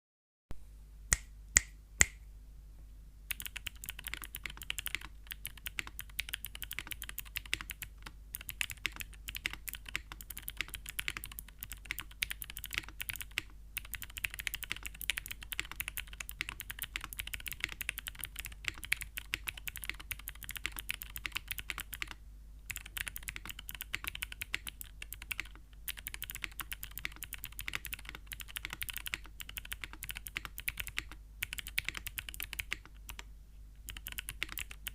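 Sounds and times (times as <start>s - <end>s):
clicky keyboard typing: 3.3s - 34.9s.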